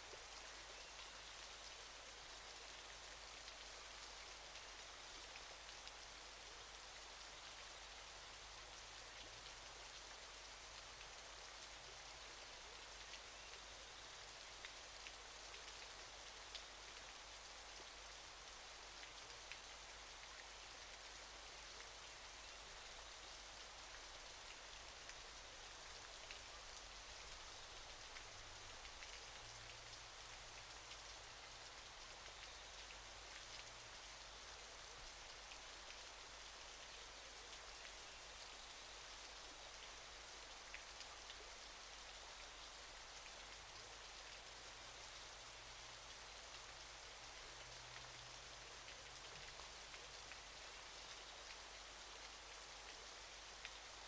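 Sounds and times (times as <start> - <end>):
faint waterfall rushing: 0.0 - 54.0.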